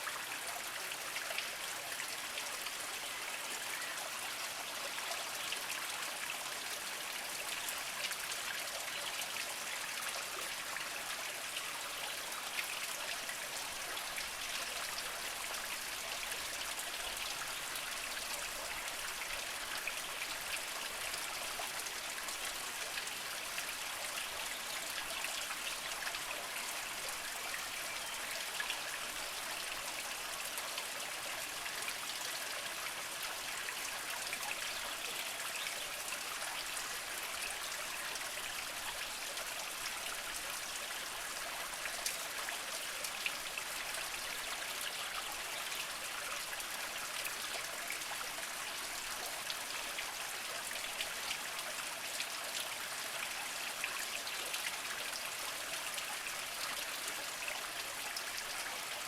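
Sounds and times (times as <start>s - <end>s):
water trickling over rocks: 0.0s - 59.0s.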